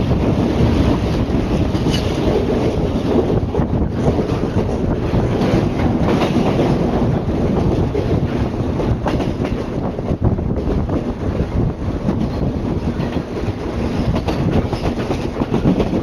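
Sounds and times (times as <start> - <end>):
train wheels rumbling on rail: 0.0 - 16.0
wheels clacking over rail joints: 0.0 - 16.0.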